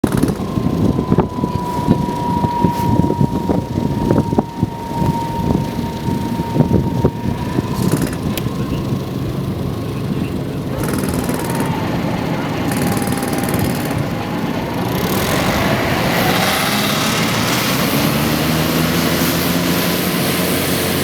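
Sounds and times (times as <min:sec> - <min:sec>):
hovercraft engine and fan rumble: 0:00.0 - 0:21.0
steady high whine: 0:00.0 - 0:21.0.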